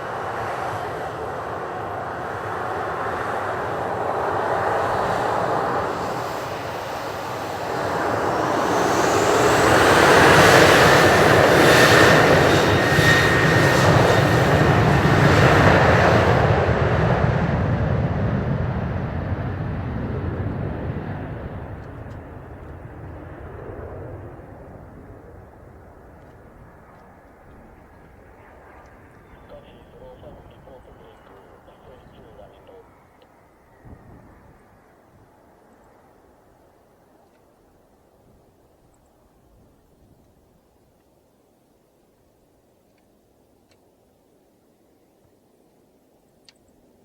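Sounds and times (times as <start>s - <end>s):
jet aircraft passing by: 0.0s - 38.6s.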